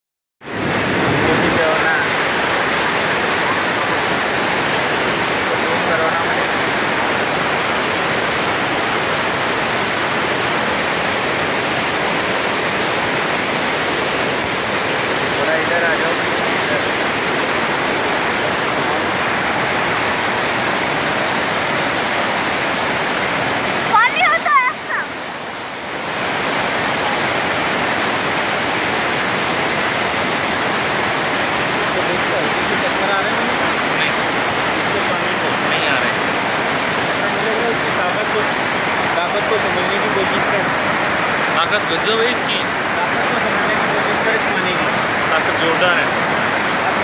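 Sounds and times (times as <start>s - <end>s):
river rushing over boulders: 0.4s - 47.0s.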